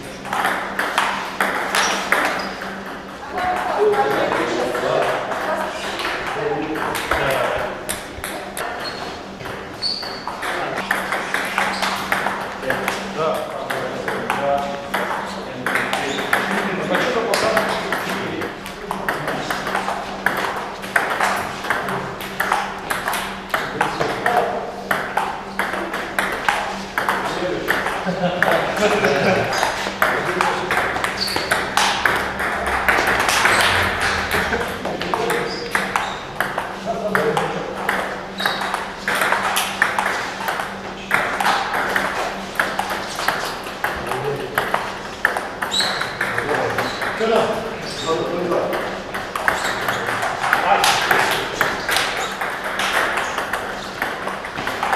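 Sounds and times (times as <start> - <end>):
table tennis balls clicking: 0.0 - 54.9.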